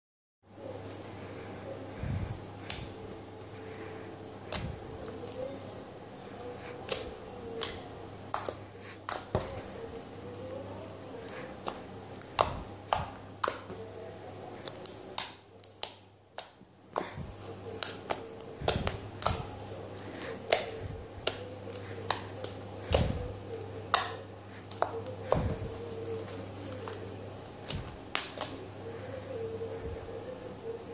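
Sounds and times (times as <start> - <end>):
steady low hum: 0.5 - 30.9.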